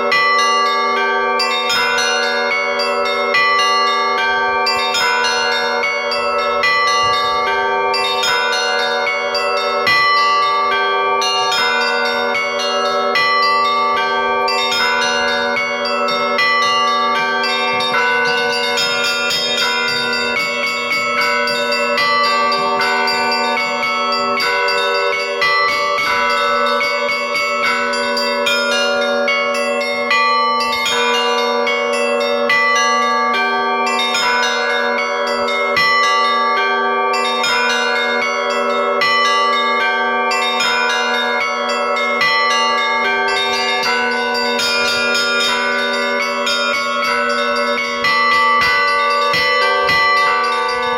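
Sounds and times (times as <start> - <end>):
large bells ringing: 0.0 - 50.9
low bell tone: 0.0 - 50.9
small bells pealing rapidly: 0.0 - 50.9.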